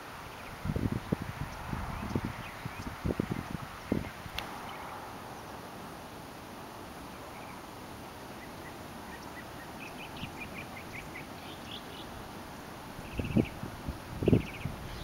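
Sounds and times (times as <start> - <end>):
steady outdoor hiss: 0.0 - 15.0
small birds chirping: 0.2 - 5.8, 7.0 - 12.3, 13.0 - 15.0.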